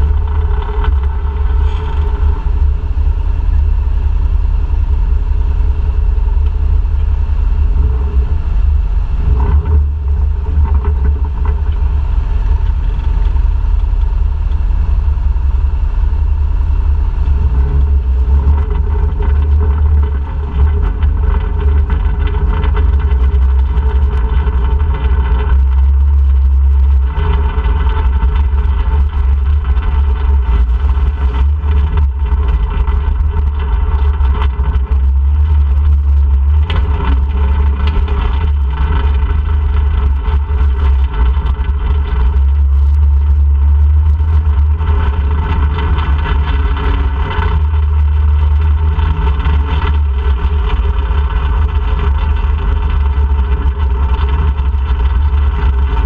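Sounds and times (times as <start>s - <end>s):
atv engine running: 0.0s - 56.0s
heavy low rumble: 0.0s - 56.0s.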